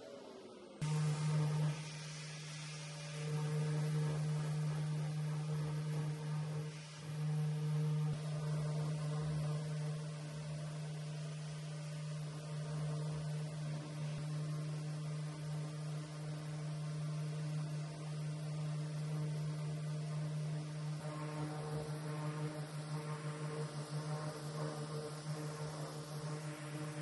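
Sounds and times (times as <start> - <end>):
electric motor humming: 0.8 - 27.0.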